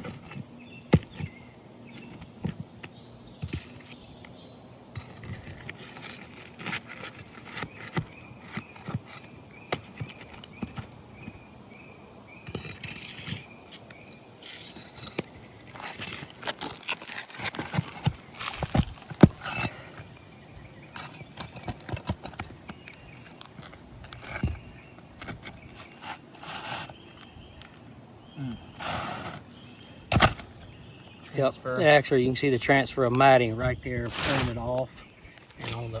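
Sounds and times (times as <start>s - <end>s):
pry bar scraping roof shingles: 0.0s - 32.1s, 32.9s - 36.0s.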